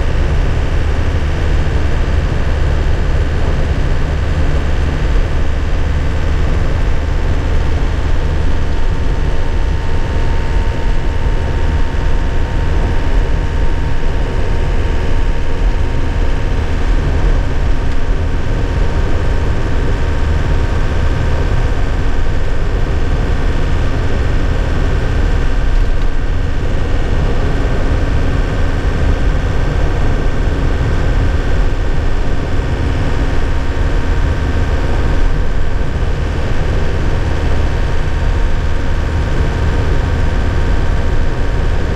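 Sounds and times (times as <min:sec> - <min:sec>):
diesel truck engine droning: 0:00.0 - 0:41.9
road and tyre noise: 0:00.0 - 0:41.9.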